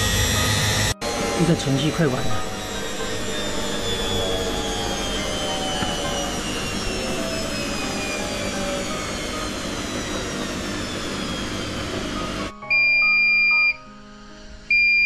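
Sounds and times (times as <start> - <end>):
washing machine spinning: 0.0 - 13.8.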